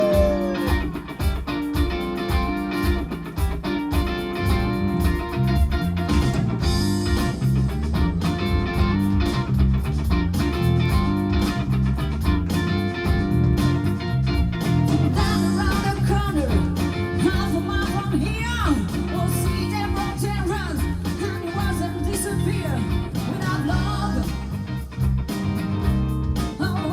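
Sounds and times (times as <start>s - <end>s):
bass guitar: 0.0s - 26.9s
drums with steady beat: 0.0s - 26.9s
electric guitar strumming: 0.0s - 26.9s.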